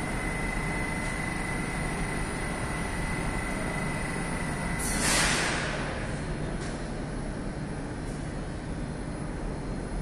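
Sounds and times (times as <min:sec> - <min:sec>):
metro platform low rumble: 0:00.0 - 0:10.0.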